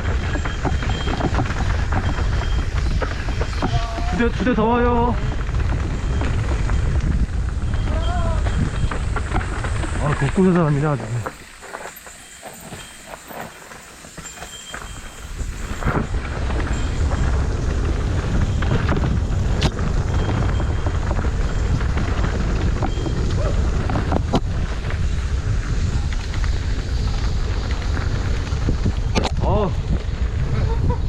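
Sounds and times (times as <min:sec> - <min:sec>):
wind buffeting microphone: 0:00.0 - 0:11.6, 0:12.4 - 0:31.0
sharp clicks from bike: 0:00.0 - 0:30.9
tyres rumbling over ground: 0:00.0 - 0:31.0.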